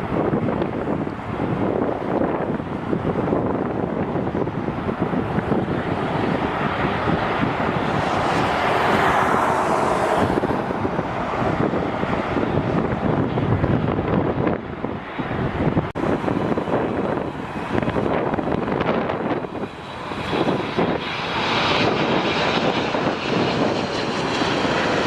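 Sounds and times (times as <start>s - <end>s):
jet airliner engine noise: 0.0s - 25.0s
wind buffeting microphone: 0.0s - 25.0s.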